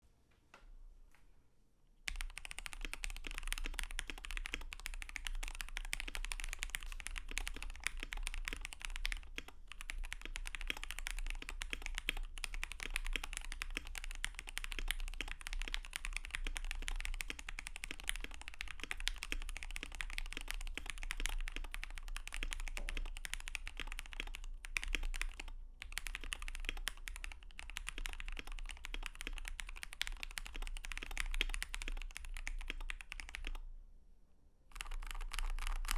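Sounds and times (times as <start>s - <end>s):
mechanical keyboard typing: 2.1s - 33.6s, 34.7s - 35.9s.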